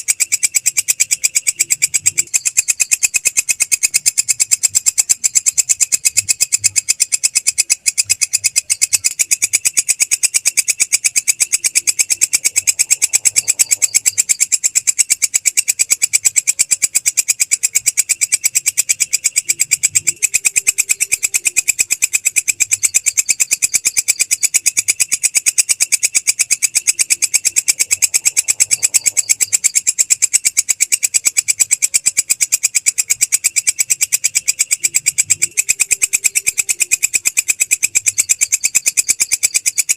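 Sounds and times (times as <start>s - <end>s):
grasshopper clicking call: 0.0s - 39.9s.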